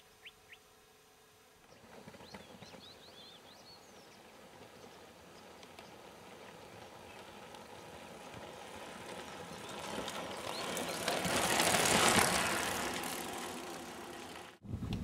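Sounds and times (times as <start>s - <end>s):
tyres on loose dirt: 1.6s - 14.6s
bike and trailer rattling: 1.7s - 14.6s.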